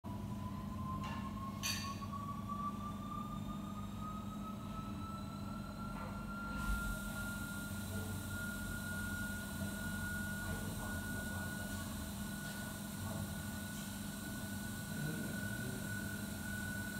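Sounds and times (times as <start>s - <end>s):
machinery hum: 0.0s - 16.9s
faint rising whine: 0.1s - 16.9s.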